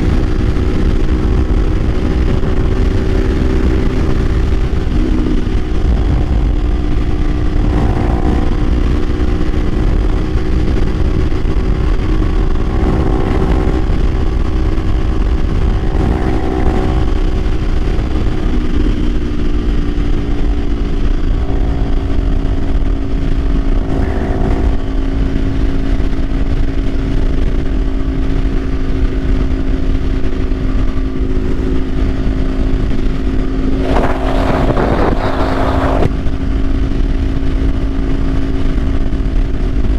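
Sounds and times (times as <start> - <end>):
motorcycle engine cruising: 0.0 - 39.9
rush of noise: 0.0 - 39.9
wind rumble on microphone: 0.0 - 39.9.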